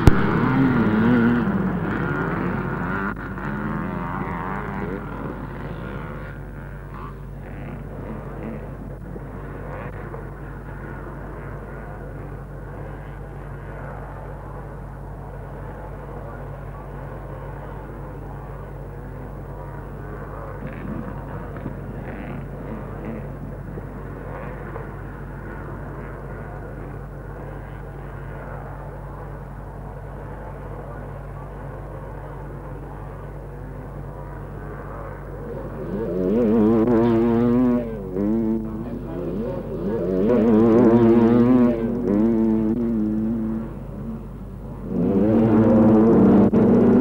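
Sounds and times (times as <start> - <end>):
motorcycle engines running: 0.0 - 47.0
tape hiss and hum: 0.0 - 47.0.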